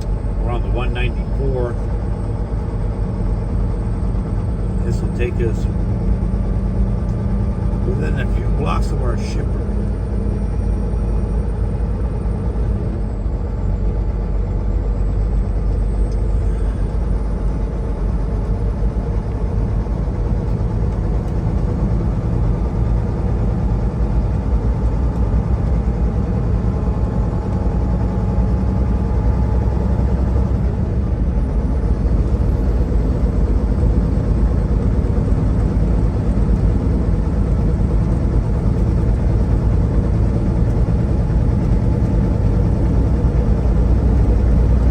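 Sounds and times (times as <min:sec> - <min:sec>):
diesel truck engine rumble: 0:00.0 - 0:44.9
road noise: 0:00.0 - 0:44.9.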